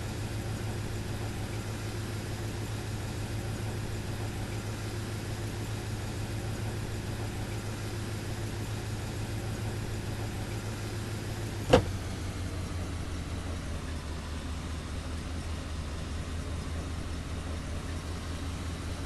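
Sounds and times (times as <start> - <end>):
car engine running at low revs: 0.0 - 19.0.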